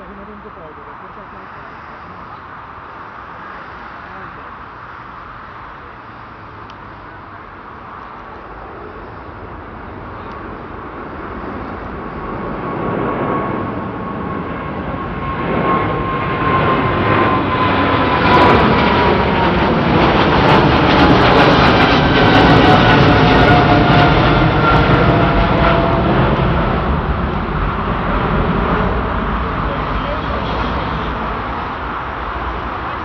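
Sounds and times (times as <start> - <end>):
jet engine at takeoff: 0.0 - 33.0.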